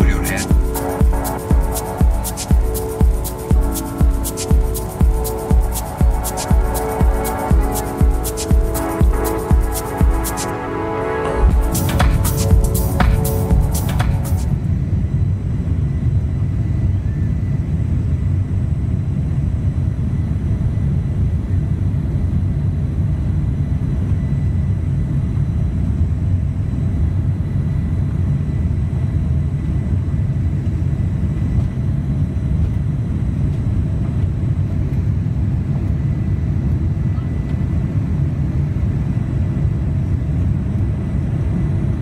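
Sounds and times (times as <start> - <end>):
faint high engine whine: 0.0 - 42.0.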